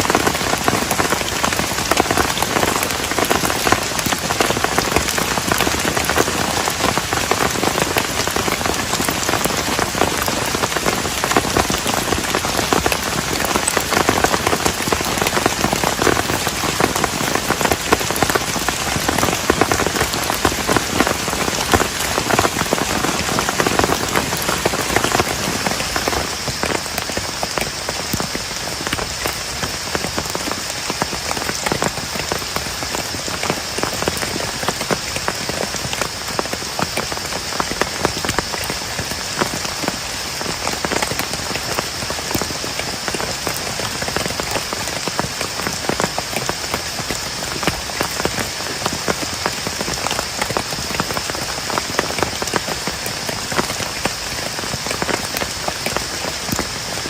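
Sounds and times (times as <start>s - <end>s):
heavy rain on plastic tarp: 0.0s - 57.0s.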